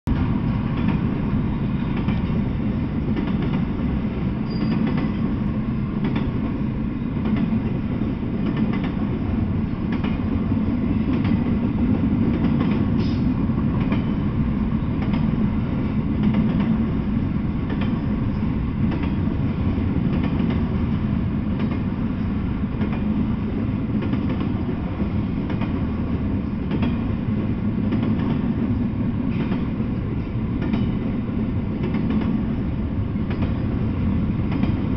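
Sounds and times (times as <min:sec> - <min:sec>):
freight train rumbling on rails: 0:00.0 - 0:34.9.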